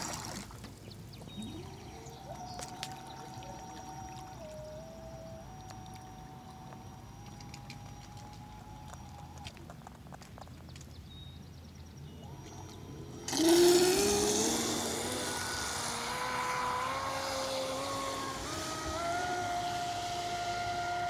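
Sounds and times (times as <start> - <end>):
electric motor whining: 1.2 - 9.7, 11.9 - 21.0.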